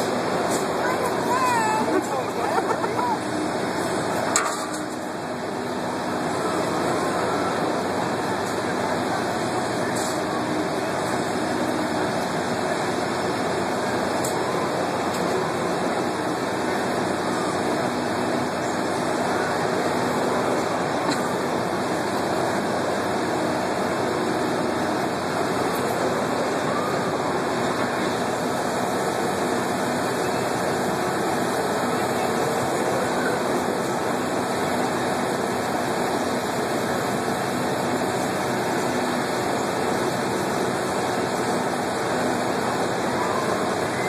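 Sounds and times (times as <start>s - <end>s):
crowd noise: 0.0s - 44.0s
ride machinery running: 0.0s - 44.0s.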